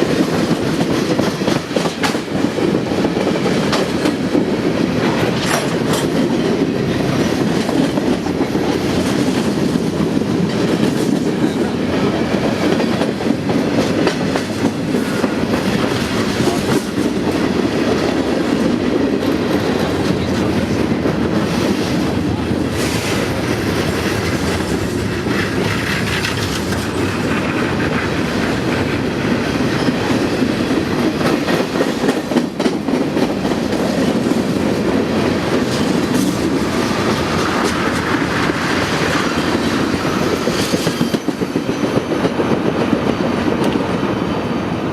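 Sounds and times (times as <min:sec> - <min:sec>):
train wheels on rail: 0:00.0 - 0:44.9.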